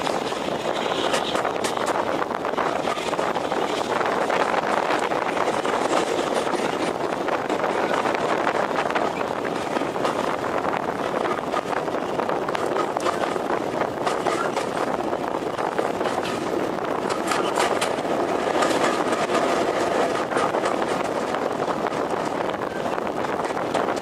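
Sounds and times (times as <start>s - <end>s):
train rumbling with clicks: 0.0s - 24.0s.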